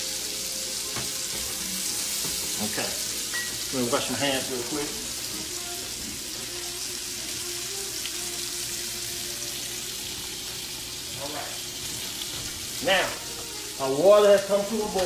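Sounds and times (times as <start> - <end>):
shrimp sizzling in a skillet: 0.0 - 15.0.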